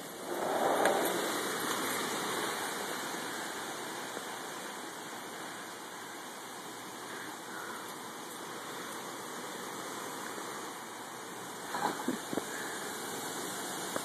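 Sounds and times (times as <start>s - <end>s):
wind and rain rushing: 0.0s - 14.0s.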